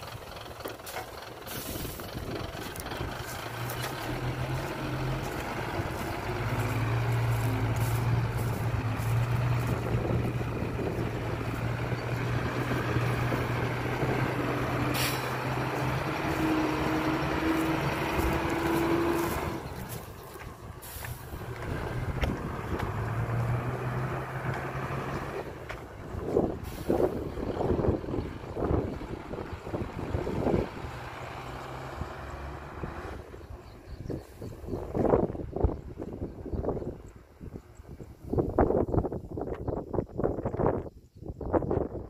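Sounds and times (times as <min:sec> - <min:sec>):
diesel truck engine running: 0:00.0 - 0:39.2.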